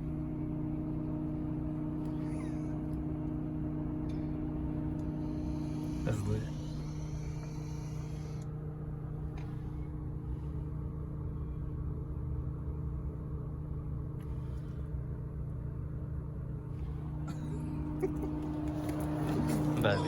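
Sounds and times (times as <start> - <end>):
car engine rumbling: 0.0 - 12.2, 14.0 - 20.0.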